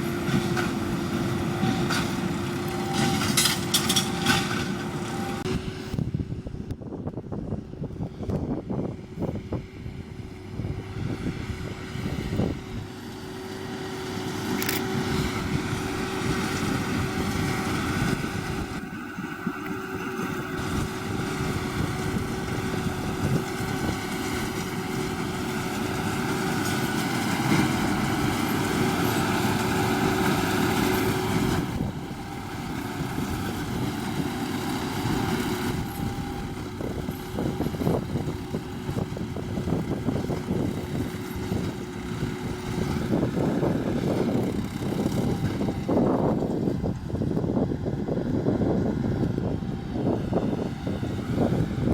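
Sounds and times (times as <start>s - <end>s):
square baler working: 0.0s - 6.4s, 7.4s - 51.9s
tractor running under load: 0.0s - 51.9s.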